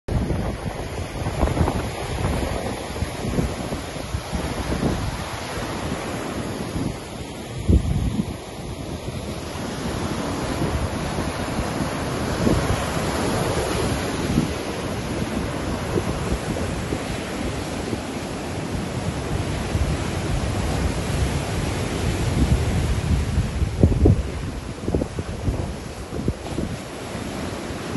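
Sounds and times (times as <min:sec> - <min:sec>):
stormy surf breaking: 0:00.1 - 0:27.9
wind buffeting microphone: 0:00.1 - 0:27.9.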